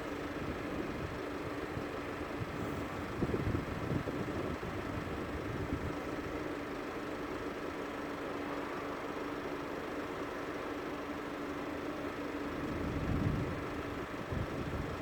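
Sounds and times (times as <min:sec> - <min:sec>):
engine knocks and rumbles: 0:00.0 - 0:15.0
vehicle engine idling: 0:00.0 - 0:15.0.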